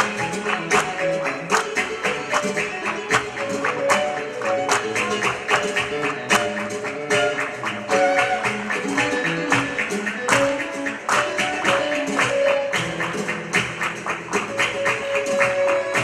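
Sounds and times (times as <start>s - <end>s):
flamenco guitar notes: 0.0s - 16.0s.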